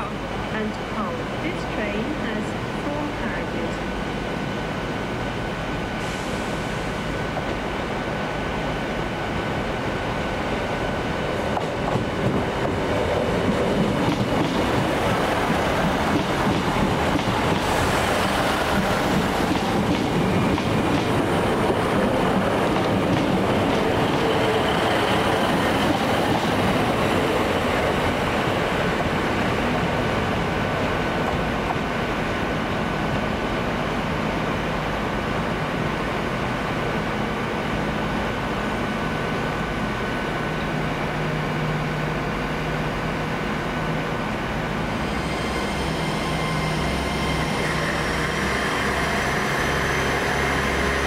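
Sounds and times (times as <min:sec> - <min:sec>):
passenger train moving on track: 0:00.0 - 0:51.0.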